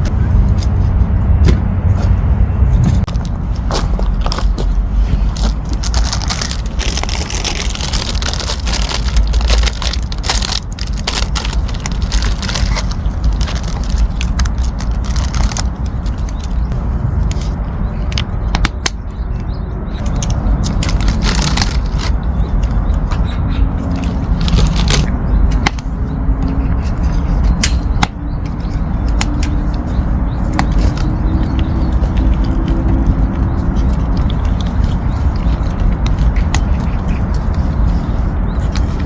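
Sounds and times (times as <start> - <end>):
steady low rumble: 0.0 - 39.0
crackling crushing handling noises: 3.1 - 39.0.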